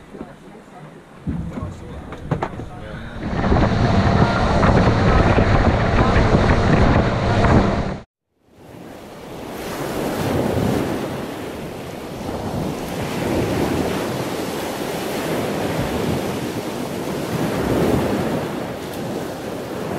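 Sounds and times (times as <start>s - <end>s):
choppy sea water washing: 0.0s - 19.9s
wind buffeting microphone: 1.0s - 19.9s.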